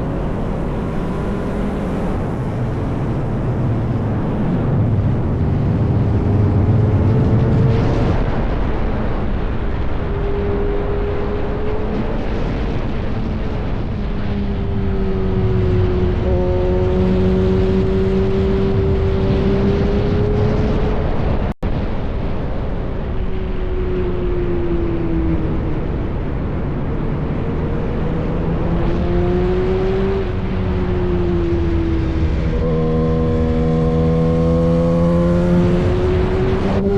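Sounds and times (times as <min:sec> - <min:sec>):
motorcycle engine cruising: 0:00.0 - 0:21.5, 0:23.8 - 0:36.9
wind rush: 0:00.0 - 0:36.9.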